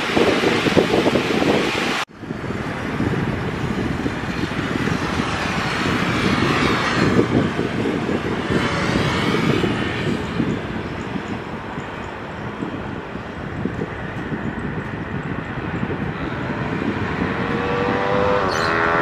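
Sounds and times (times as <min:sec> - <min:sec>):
distant jet engine rumble: 0:00.0 - 0:19.0
wind buffeting microphone: 0:00.0 - 0:19.0.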